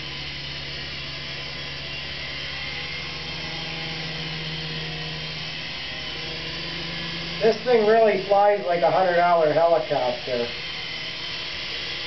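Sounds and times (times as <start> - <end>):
toy helicopter rotors whirring: 0.0 - 12.0.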